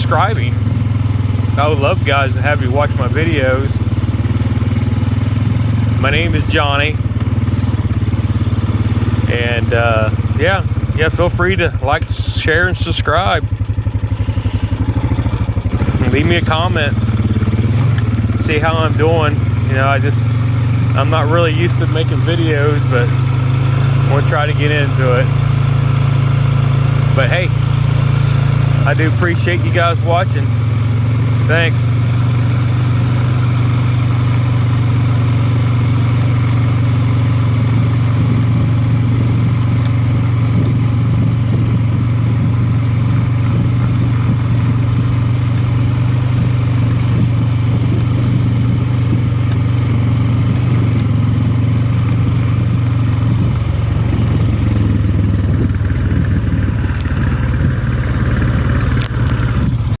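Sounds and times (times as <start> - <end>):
atv engine running: 0.0 - 60.0.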